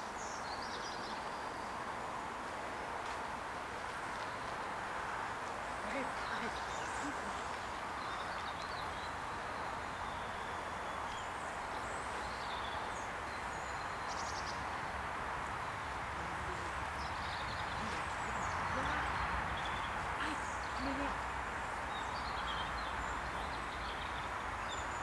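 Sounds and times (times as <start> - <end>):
small birds chirping: 0.0 - 2.2, 3.0 - 25.0
outdoor background hiss: 0.0 - 25.0.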